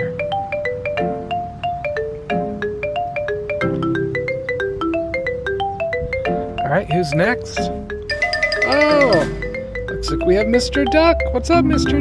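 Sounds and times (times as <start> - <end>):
cheerful marimba music: 0.0 - 12.0.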